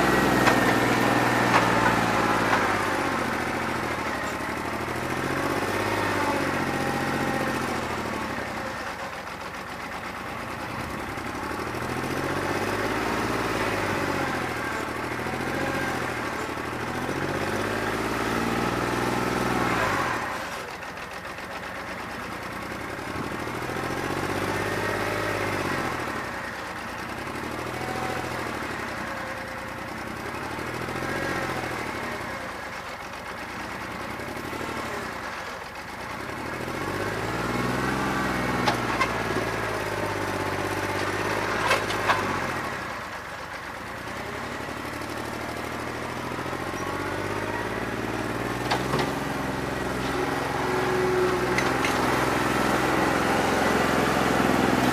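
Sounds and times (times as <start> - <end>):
tractor diesel engine revving: 0.0 - 54.9.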